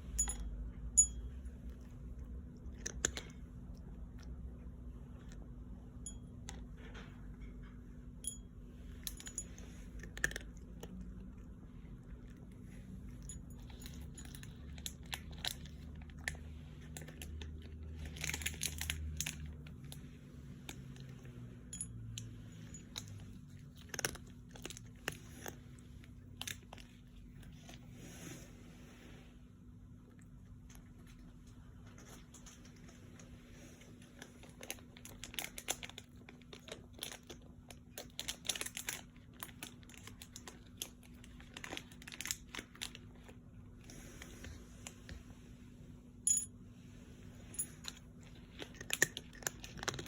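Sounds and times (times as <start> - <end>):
steady low hum: 0.0 - 50.0
crunching and chewing: 1.5 - 7.8, 9.1 - 21.6, 22.7 - 27.9, 30.0 - 45.0, 47.7 - 50.0.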